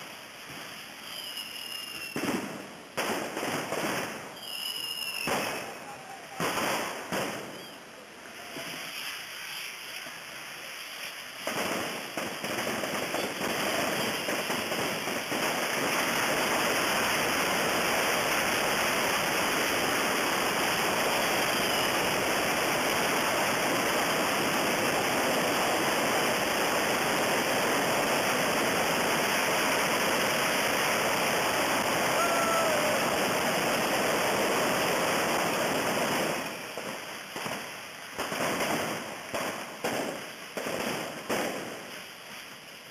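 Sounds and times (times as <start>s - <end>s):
firework rockets hissing: 0.0s - 42.9s.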